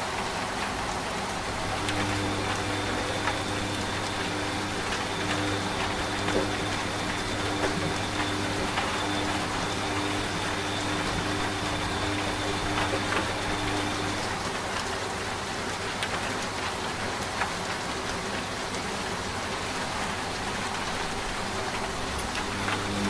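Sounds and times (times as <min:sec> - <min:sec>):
steady rain: 0:00.0 - 0:23.0
washing machine humming: 0:00.0 - 0:23.0.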